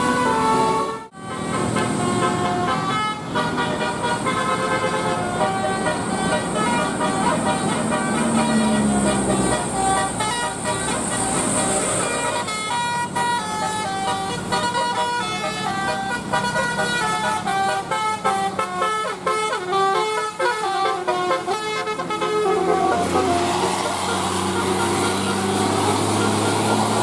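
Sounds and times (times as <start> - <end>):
bus engine hum: 0.0 - 27.0
multi-tone bus horn melody: 0.0 - 27.0.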